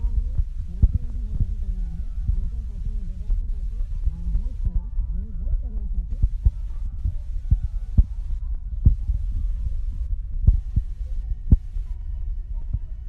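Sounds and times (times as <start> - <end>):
heavy low rumble: 0.0 - 13.0.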